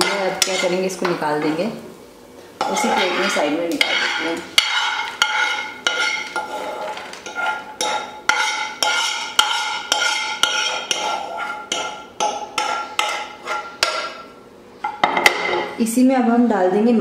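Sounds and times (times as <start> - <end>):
spoon knocking and scraping a pan: 0.0 - 1.6, 2.6 - 15.8.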